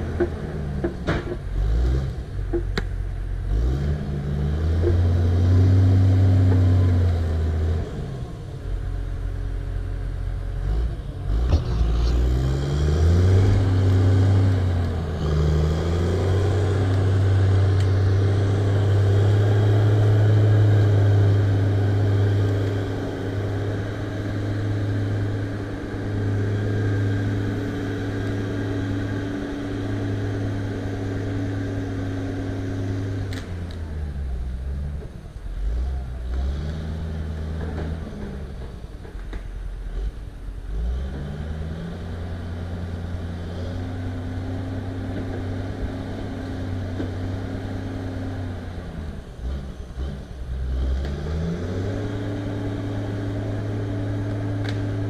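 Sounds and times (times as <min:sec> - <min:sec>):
diesel engine working under load: 0:00.0 - 0:55.0.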